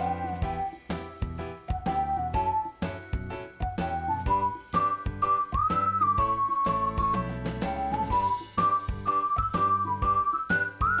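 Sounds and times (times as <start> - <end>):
whistled melody: 0.0 - 11.0.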